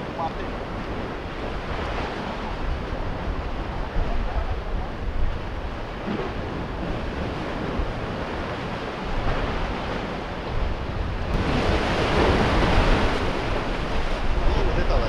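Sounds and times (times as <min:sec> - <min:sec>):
sea waves washing against concrete: 0:00.0 - 0:15.0
wind buffeting microphone: 0:00.0 - 0:15.0.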